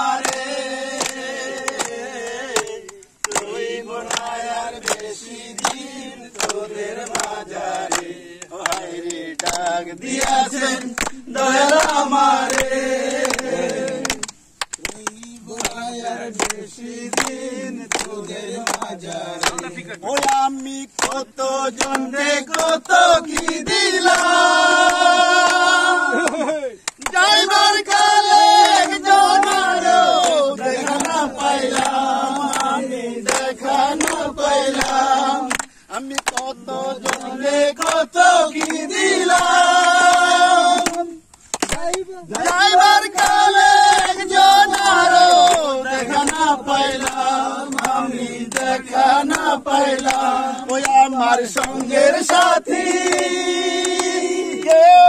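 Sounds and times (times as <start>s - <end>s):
hand claps: 0.0s - 55.0s
men singing together: 0.0s - 55.0s.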